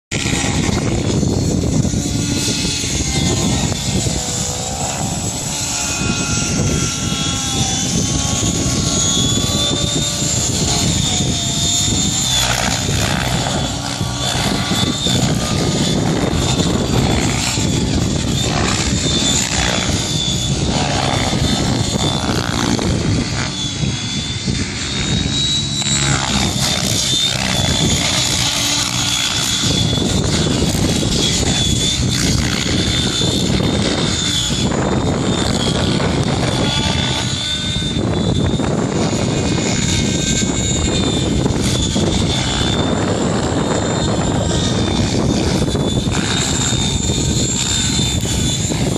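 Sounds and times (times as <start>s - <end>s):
model helicopter motor whine: 0.1s - 48.9s
steady rushing noise: 0.1s - 48.9s.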